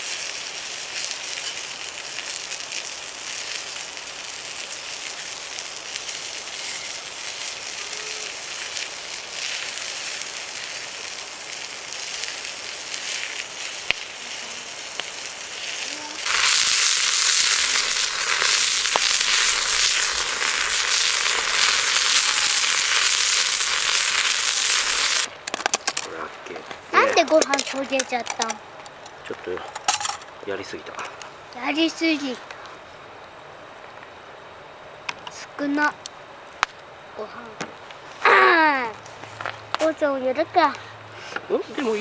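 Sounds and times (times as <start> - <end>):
cooking fire crackling and sizzling: 0.0 - 42.0.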